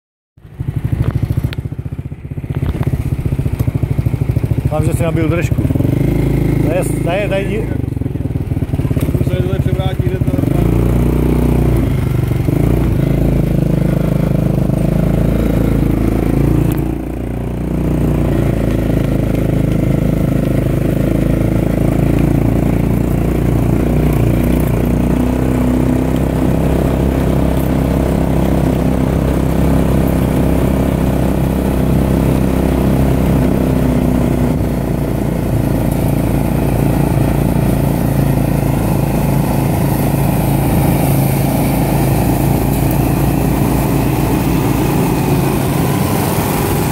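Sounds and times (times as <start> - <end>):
engine running steadily: 0.4 - 46.9.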